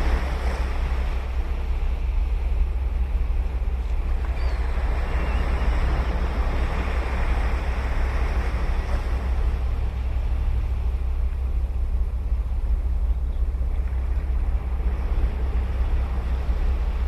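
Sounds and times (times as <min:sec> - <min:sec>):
low rumble: 0:00.0 - 0:17.0
ocean surf breaking: 0:00.0 - 0:17.0.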